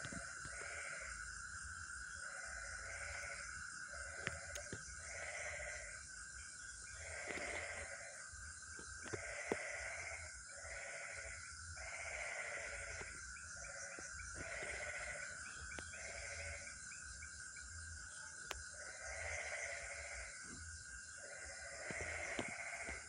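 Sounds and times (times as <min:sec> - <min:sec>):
frog bleating calls: 0:00.0 - 0:01.2, 0:02.2 - 0:06.0, 0:06.9 - 0:08.3, 0:09.0 - 0:17.0, 0:18.4 - 0:23.0.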